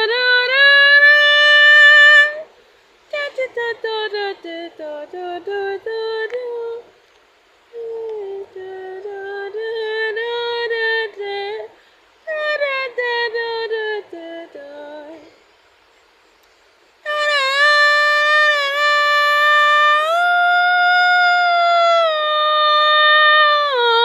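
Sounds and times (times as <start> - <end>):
high voice singing wordless melody: 0.0 - 2.5, 3.1 - 6.9, 7.7 - 15.4, 17.0 - 24.0.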